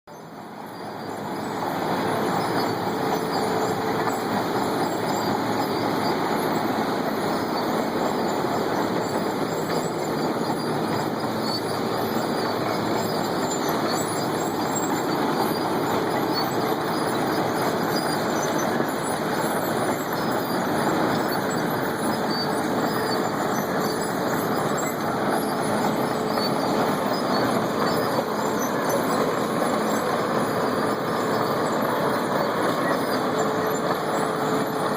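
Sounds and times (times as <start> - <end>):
asphalt milling machine grinding: 0.1 - 34.9.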